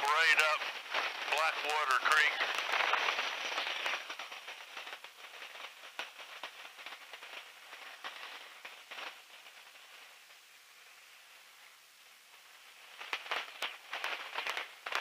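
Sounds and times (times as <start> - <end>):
faint crackling hiss with clicks: 0.0 - 15.0.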